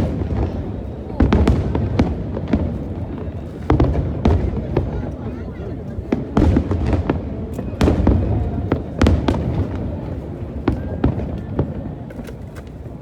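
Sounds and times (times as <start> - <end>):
fireworks bangs: 0.0 - 12.8
low rumble of fireworks: 0.0 - 13.0.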